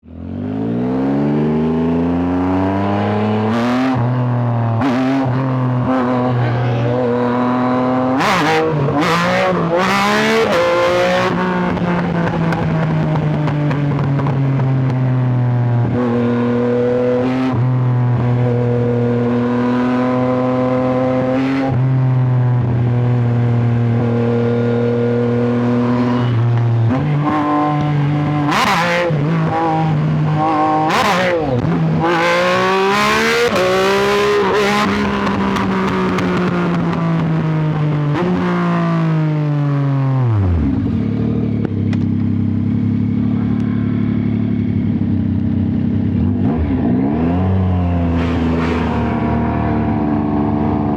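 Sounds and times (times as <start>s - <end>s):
motorcycle engine shifting gears: 0.2s - 50.9s.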